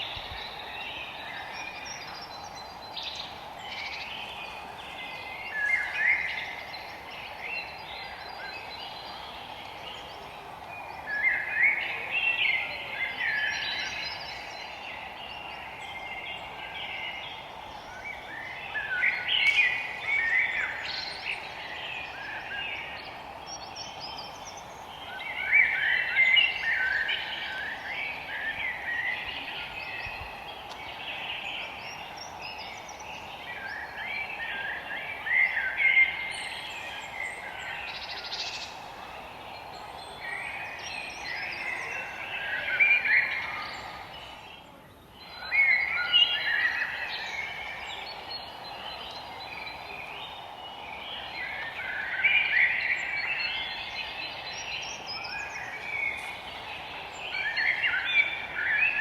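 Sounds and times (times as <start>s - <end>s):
songbirds chirping: 0.0s - 59.0s
steady background hiss: 0.0s - 59.0s.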